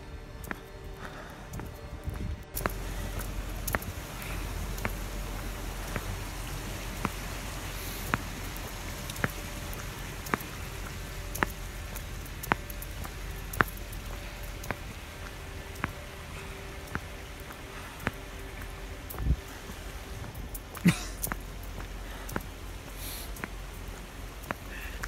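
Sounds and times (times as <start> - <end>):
faint hum: 0.0 - 25.0
slow footsteps: 0.0 - 25.0
steady hiss: 0.0 - 25.0.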